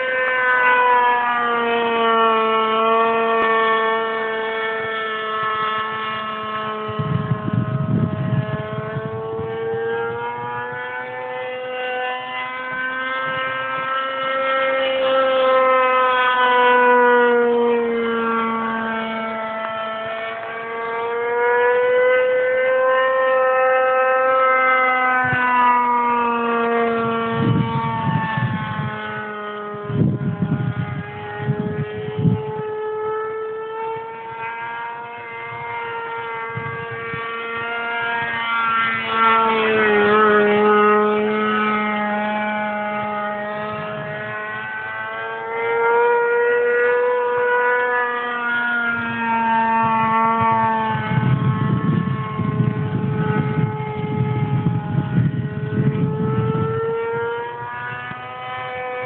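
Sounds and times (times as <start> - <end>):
model airplane engine buzzing: 0.0 - 59.0
wind rumble on microphone: 1.3 - 23.0, 24.8 - 59.0.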